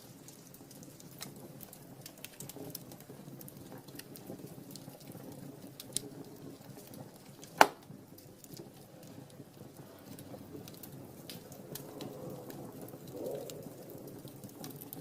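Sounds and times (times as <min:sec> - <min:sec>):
burning wood popping: 0:00.0 - 0:15.0
rush of flames: 0:00.0 - 0:15.0
small fire crackles: 0:00.0 - 0:15.0.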